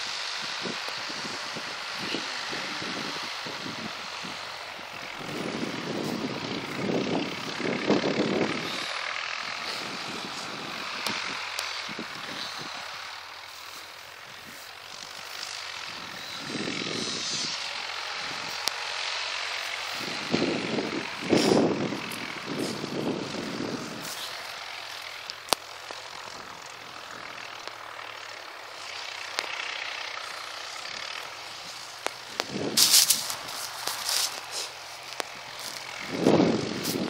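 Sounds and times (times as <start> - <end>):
distant tractor engines running: 0.0 - 37.0.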